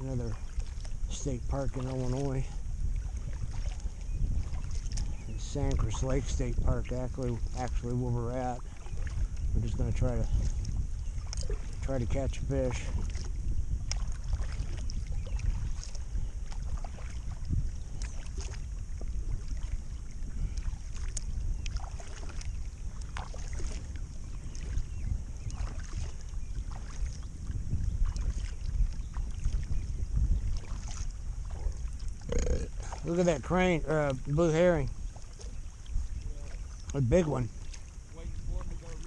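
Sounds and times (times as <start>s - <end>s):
paddle splashing in water: 0.0s - 39.0s
wind on microphone: 0.0s - 39.0s.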